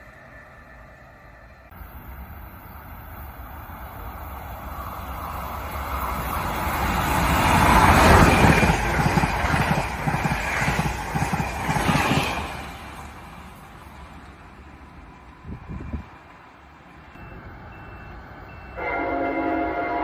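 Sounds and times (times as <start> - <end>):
high-speed train rushing past: 0.0 - 20.0.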